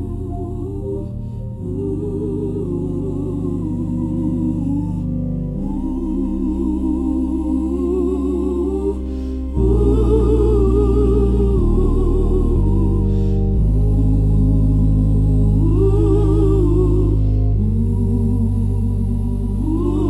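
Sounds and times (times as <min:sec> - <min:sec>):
gospel choir singing: 0:00.0 - 0:20.0
low held chords: 0:00.0 - 0:20.0.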